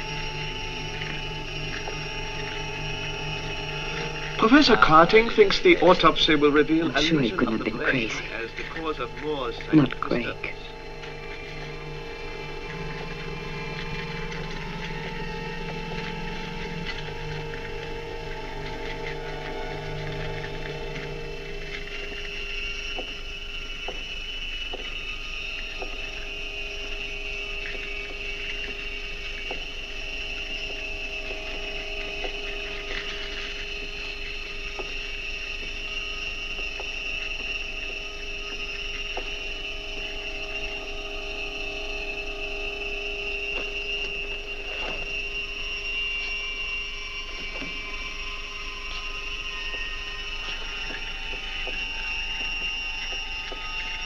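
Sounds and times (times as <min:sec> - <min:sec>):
steady drone of sustained tones: 0:00.0 - 0:54.0.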